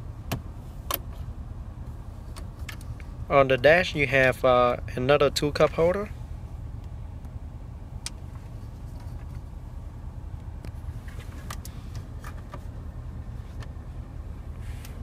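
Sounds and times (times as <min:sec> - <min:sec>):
low car cabin rumble: 0:00.0 - 0:15.0.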